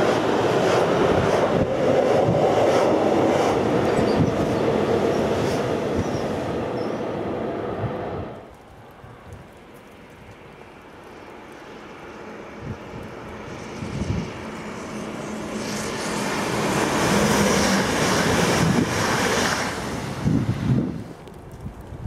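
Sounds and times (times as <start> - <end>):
train passing at speed: 0.0 - 9.3, 10.0 - 21.2.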